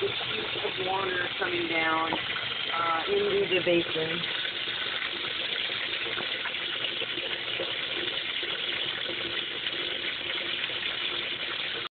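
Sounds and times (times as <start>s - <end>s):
water pouring into washing machine: 0.0s - 11.9s.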